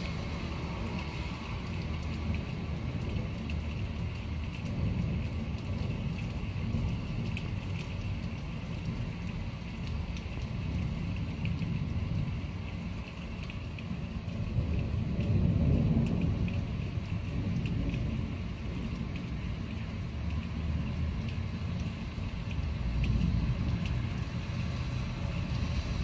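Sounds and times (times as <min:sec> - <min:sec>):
drip ticks: 0:00.0 - 0:26.0
low thunder rumble: 0:00.0 - 0:26.0
rain: 0:00.0 - 0:26.0.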